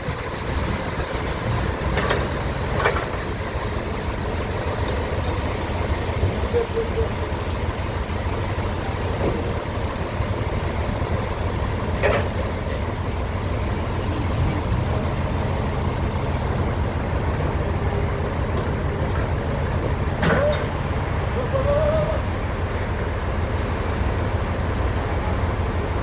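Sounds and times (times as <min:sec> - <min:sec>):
sawmill machinery humming: 0:00.0 - 0:26.0.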